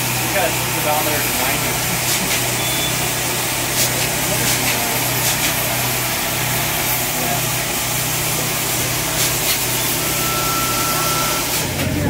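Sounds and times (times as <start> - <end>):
steam hiss: 0.0 - 11.8.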